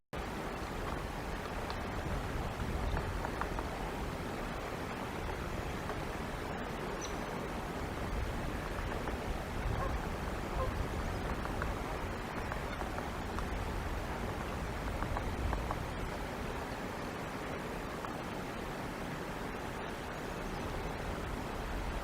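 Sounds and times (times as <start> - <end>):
steady outdoor noise: 0.2 - 22.0.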